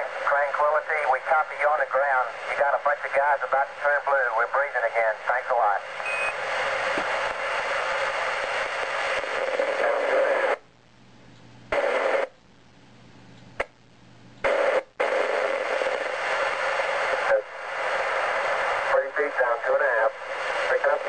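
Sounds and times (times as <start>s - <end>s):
radio static hiss: 0.0s - 12.6s, 13.5s - 21.0s.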